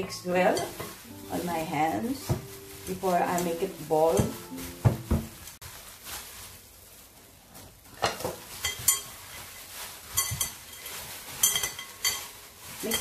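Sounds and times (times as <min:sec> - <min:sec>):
plastic gloves rustling: 0:00.0 - 0:13.0.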